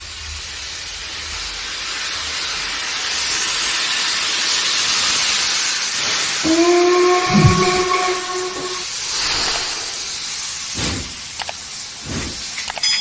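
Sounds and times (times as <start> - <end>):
steam locomotive hissing steam: 0.0 - 12.8.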